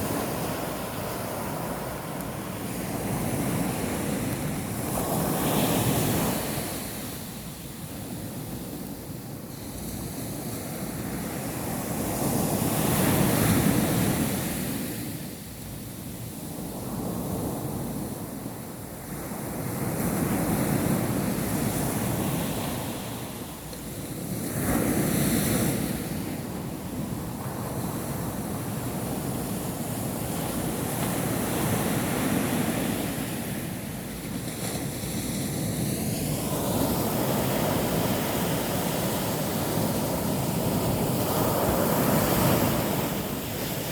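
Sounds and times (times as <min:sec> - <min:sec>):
waves breaking on beach: 0:00.0 - 0:43.9
wind: 0:00.0 - 0:43.9.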